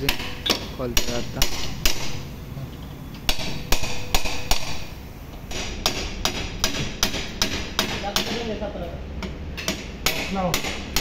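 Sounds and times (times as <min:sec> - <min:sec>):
hammer striking metal: 0:00.0 - 0:02.3, 0:03.3 - 0:08.6, 0:09.2 - 0:11.0.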